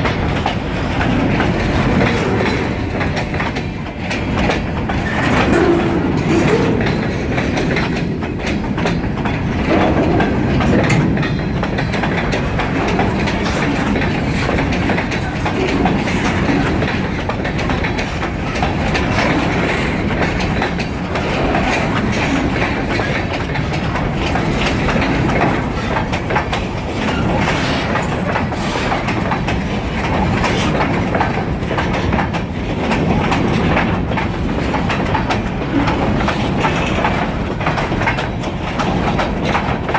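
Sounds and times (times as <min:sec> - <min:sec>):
train wheels rumbling on rails: 0:00.0 - 0:39.9
wheels clicking over rail joints: 0:00.0 - 0:39.9.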